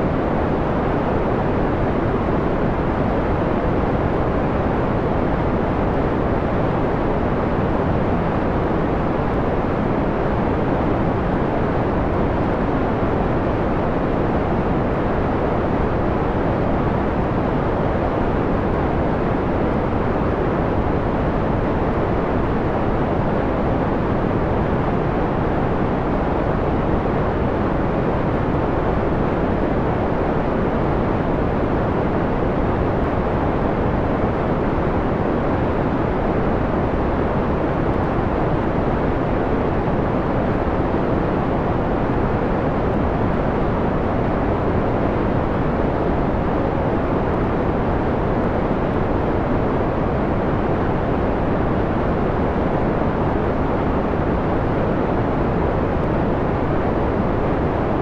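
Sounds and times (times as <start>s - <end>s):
dull white noise: 0.0s - 58.0s.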